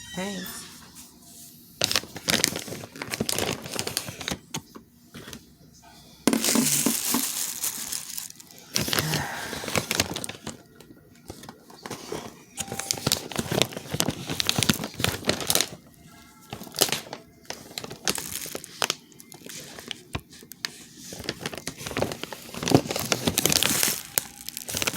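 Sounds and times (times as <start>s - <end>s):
packaging crinkling and rustling: 1.8s - 5.5s, 6.3s - 24.9s.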